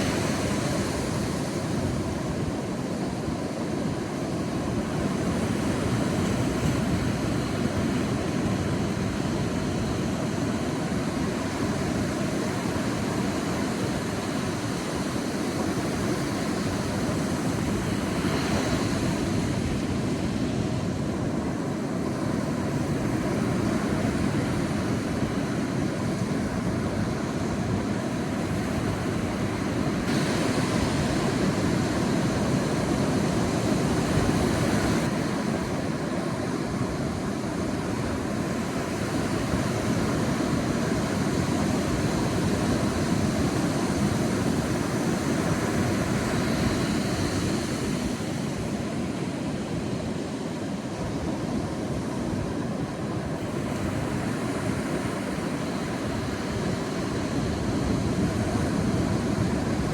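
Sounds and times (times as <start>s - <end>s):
sea waves on beach: 0.0s - 59.9s.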